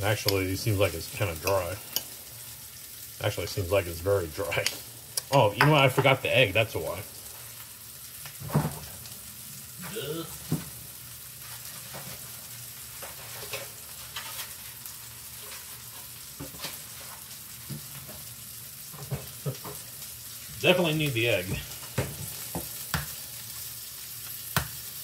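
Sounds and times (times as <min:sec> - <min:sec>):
meat sizzling in a frying pan: 0:00.0 - 0:25.0.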